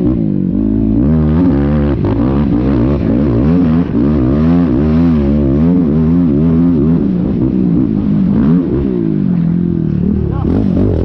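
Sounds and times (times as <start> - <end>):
quad engine revving: 0.0 - 11.0.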